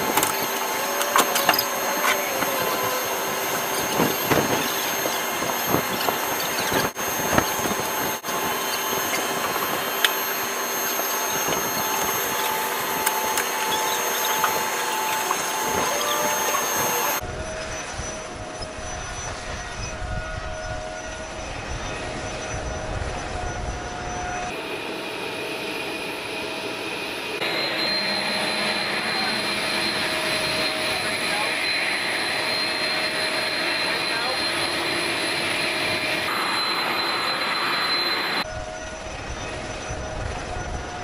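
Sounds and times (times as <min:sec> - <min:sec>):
jet engine whining: 0:00.0 - 0:41.0.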